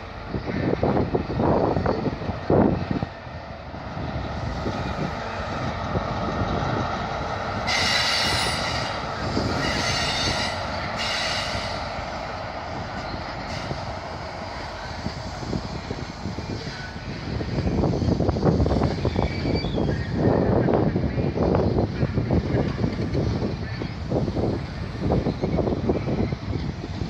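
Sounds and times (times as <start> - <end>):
train rolling with steady rumble: 0.0 - 27.0
wheels squealing on rails: 4.4 - 27.0.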